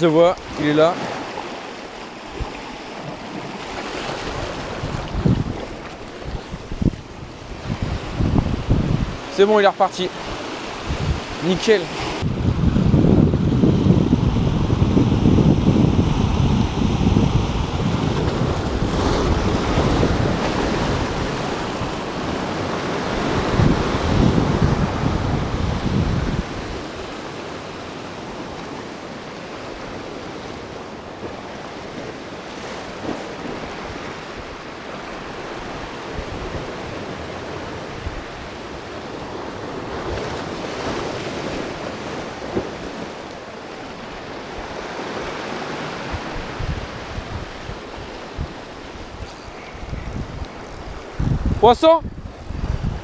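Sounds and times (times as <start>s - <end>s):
wind buffeting microphone: 2.2s - 9.4s, 10.2s - 28.8s, 29.6s - 43.5s, 44.2s - 53.0s.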